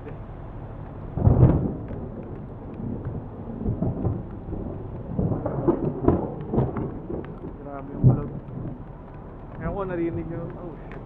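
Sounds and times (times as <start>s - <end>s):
heavy rain: 0.0s - 11.0s
thunder rumbling: 1.0s - 10.6s.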